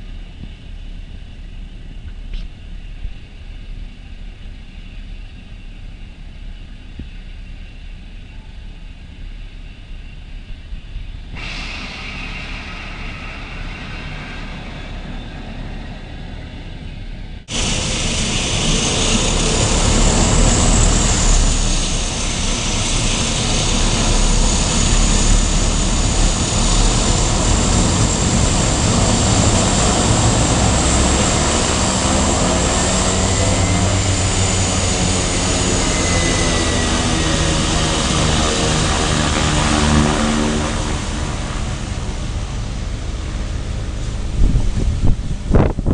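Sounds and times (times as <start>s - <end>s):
high steady engine whine: 0.0s - 45.9s
jet engine rumble: 0.0s - 45.9s.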